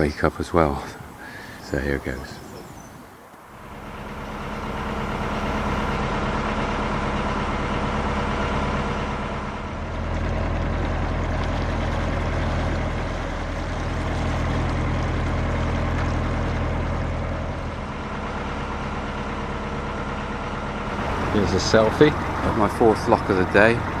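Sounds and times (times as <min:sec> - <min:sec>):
boat diesel engine running: 0:00.0 - 0:24.0.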